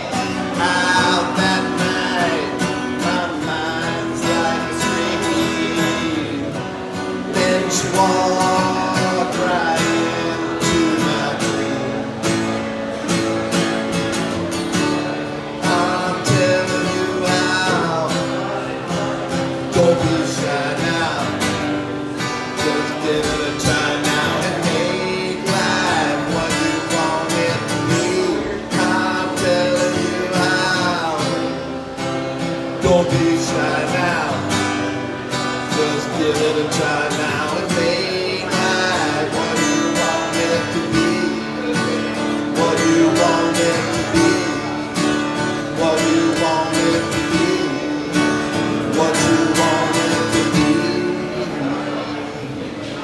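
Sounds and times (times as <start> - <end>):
man singing: 0.0 - 12.6, 14.7 - 52.3
acoustic guitar strummed: 0.0 - 53.0.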